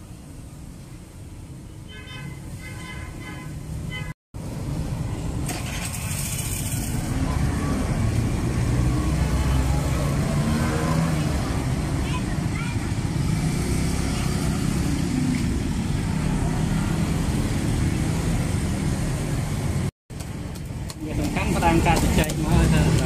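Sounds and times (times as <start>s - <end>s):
motorbike and car engines: 3.7s - 23.0s.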